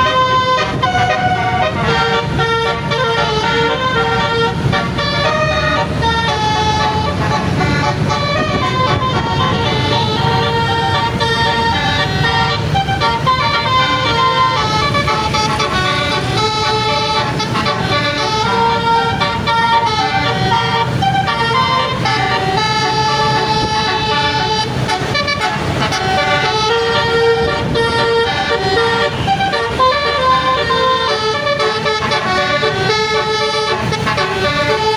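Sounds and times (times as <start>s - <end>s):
bus engine running: 0.0s - 34.9s
bus musical horn melody: 0.0s - 34.9s.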